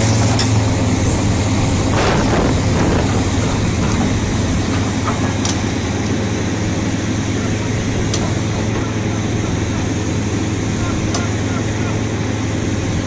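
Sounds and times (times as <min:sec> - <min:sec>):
heavy vehicle engine humming: 0:00.0 - 0:13.0
noisy rush: 0:00.0 - 0:13.0.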